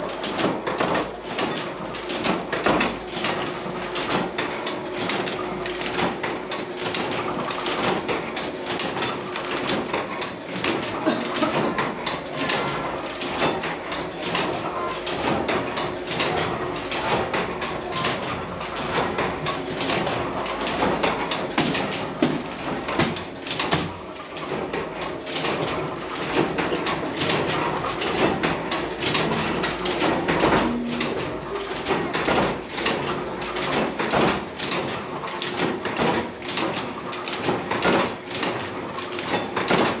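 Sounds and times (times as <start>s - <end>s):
mechanical clacks: 0.0s - 40.0s
machine motor hum: 2.0s - 34.6s.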